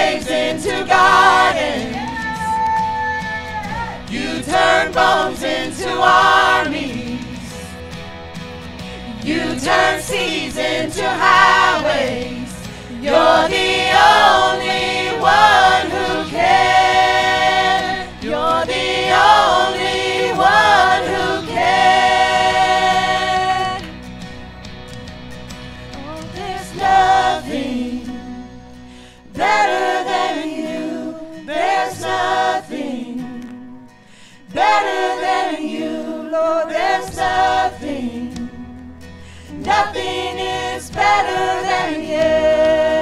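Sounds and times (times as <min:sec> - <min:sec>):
group singing a worship song: 0:00.0 - 0:03.1, 0:03.7 - 0:24.4, 0:25.9 - 0:43.0.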